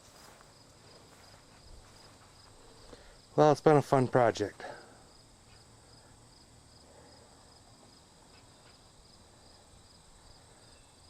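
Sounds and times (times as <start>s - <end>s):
faint insect chirping: 0.0s - 11.0s.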